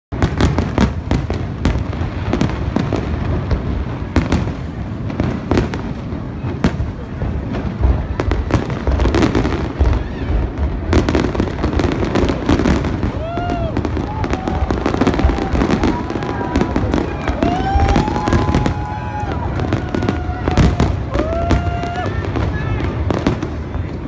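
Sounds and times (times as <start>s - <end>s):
fireworks bursting: 0.1s - 24.0s
low rumble of explosions: 0.1s - 24.0s.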